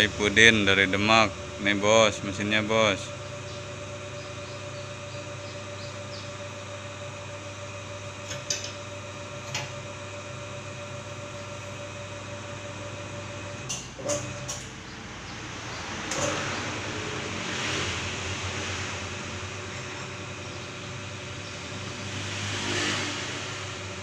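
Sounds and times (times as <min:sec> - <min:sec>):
rolling machine motor hum: 0:00.0 - 0:22.4.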